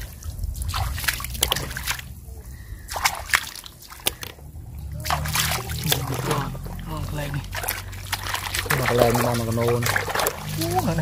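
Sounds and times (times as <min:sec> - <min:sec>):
hands splashing in muddy water: 0:00.0 - 0:11.0.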